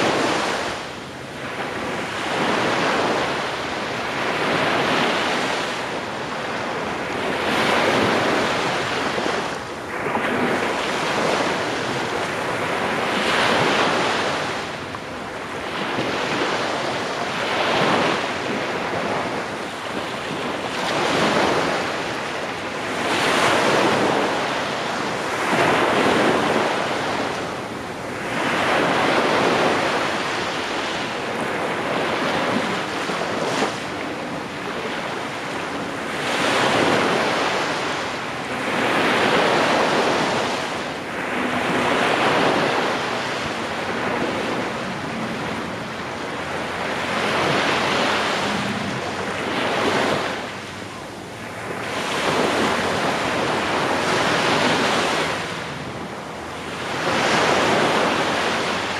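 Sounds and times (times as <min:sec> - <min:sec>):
small waves breaking on beach: 0:00.0 - 0:58.9
wind buffeting microphone: 0:00.0 - 0:58.9.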